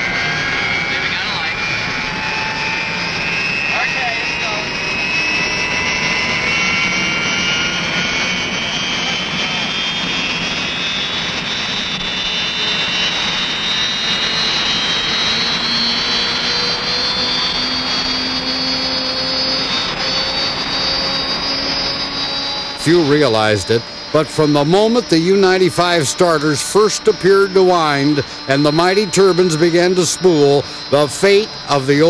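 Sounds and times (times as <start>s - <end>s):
turbine engine roaring and whining: 0.0s - 32.0s.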